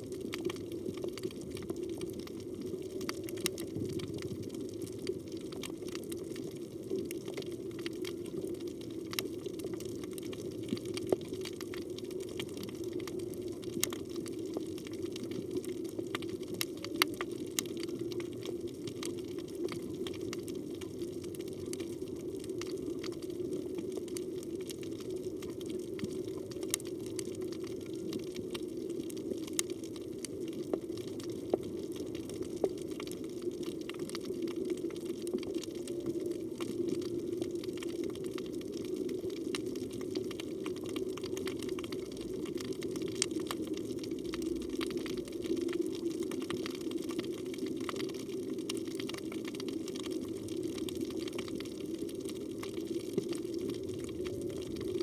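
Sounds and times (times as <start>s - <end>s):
underwater rush of water: 0.0s - 55.0s.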